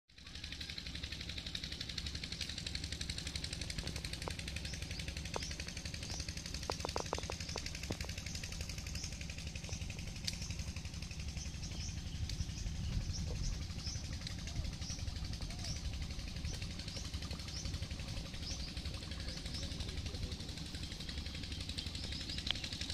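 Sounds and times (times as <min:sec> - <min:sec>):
engine running with fast pulse: 0:00.1 - 0:22.9.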